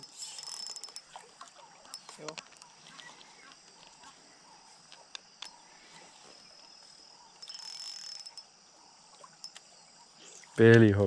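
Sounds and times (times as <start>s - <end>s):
insect buzzing: 0.0s - 10.6s
insects chirring: 0.0s - 11.0s.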